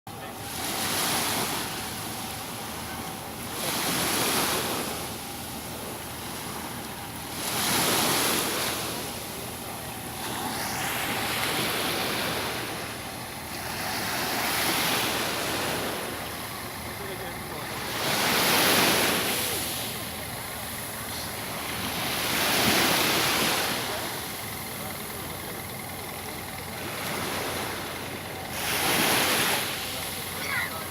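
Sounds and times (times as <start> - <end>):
sea waves washing in: 0.1 - 30.9.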